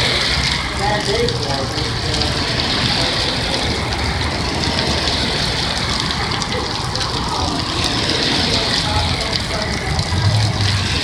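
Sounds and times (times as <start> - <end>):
rain hissing: 0.0 - 11.0
vehicles driving on wet road: 0.0 - 11.0.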